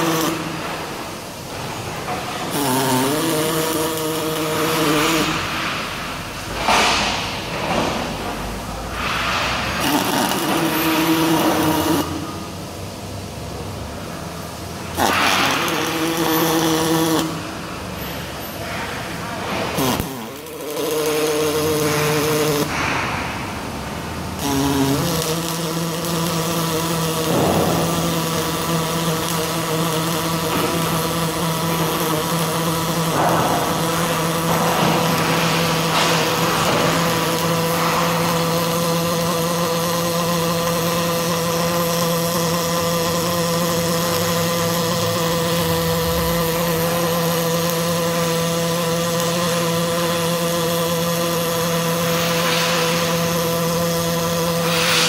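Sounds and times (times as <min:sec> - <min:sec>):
welding arc hissing: 0:00.0 - 0:55.0.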